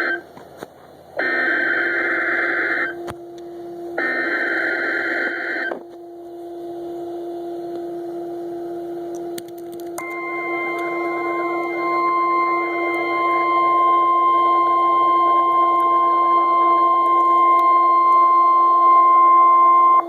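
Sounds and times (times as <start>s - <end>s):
steady low tone: 1.1s - 20.0s.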